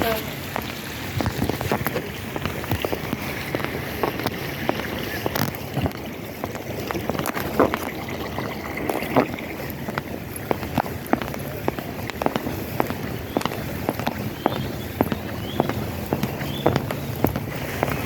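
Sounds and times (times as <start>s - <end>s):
water splashing and lapping: 0.0s - 18.0s
wind on microphone: 0.0s - 18.0s.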